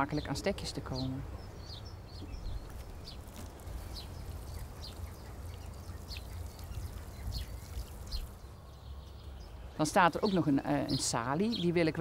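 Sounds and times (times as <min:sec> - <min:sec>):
low outdoor rumble: 0:00.0 - 0:11.4
small birds chirping: 0:00.0 - 0:12.0.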